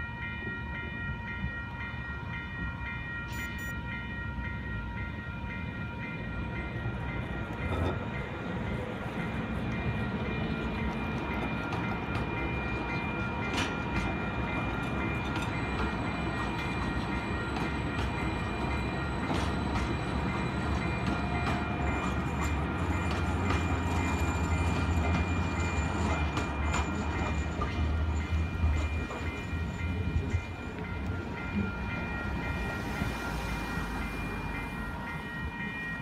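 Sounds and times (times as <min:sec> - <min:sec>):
crossing warning bell ringing: 0:00.0 - 0:36.0
train rumbling past: 0:00.0 - 0:36.0.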